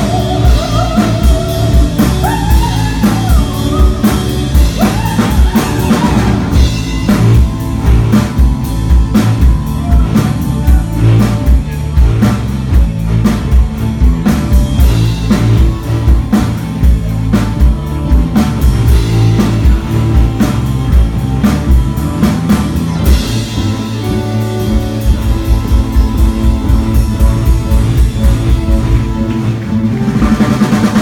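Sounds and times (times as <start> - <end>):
rock music with drums and guitar: 0.0 - 31.0.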